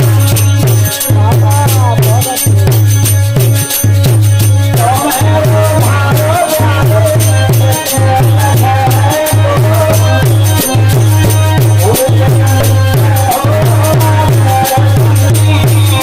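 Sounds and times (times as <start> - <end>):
deep steady drum beat: 0.0 - 16.0
shaken rattle percussion: 0.0 - 16.0.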